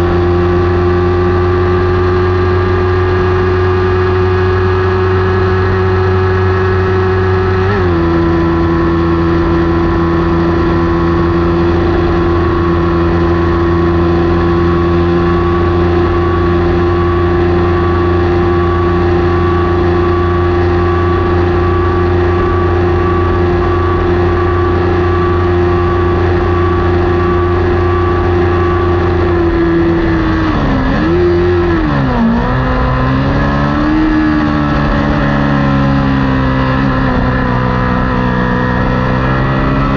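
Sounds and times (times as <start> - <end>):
motorcycle engine at full throttle: 0.0 - 39.9.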